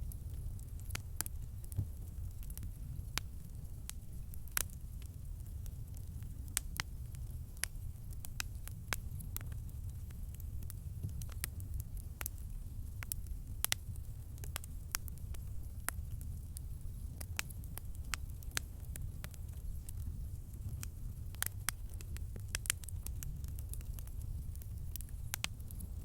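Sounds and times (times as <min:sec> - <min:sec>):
campfire crackles and pops: 0:00.0 - 0:26.0
low rumble of flames: 0:00.0 - 0:26.0.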